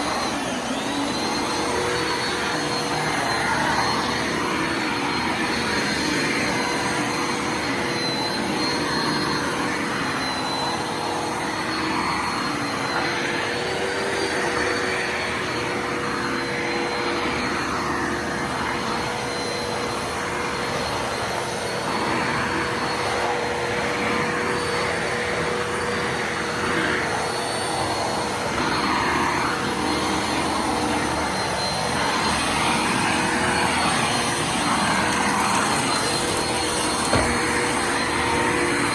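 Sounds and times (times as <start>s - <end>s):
vacuum cleaner humming and whining: 0.0s - 38.9s.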